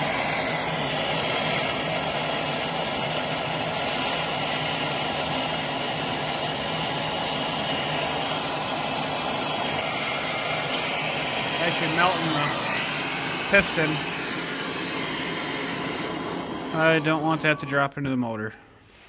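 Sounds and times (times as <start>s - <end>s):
gas torch hissing: 0.0s - 17.9s.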